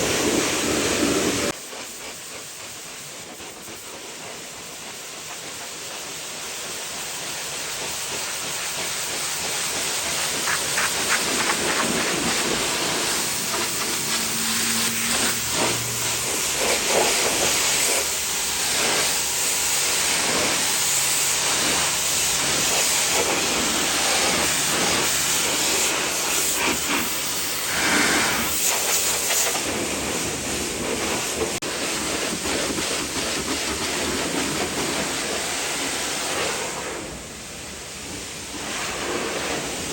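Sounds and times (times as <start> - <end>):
high-pressure water spray hissing: 0.0 - 39.9.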